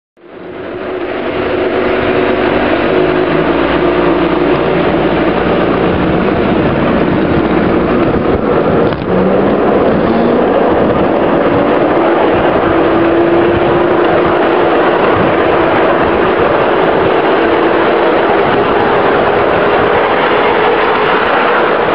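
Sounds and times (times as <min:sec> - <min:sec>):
wheels rumbling on rail: 0:00.2 - 0:21.9.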